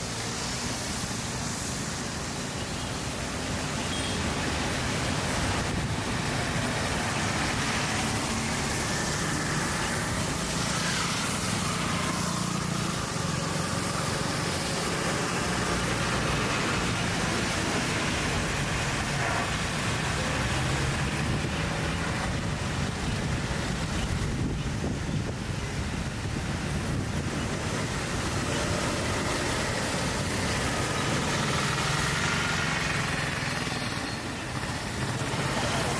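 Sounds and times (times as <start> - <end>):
city road traffic: 0.0 - 35.9.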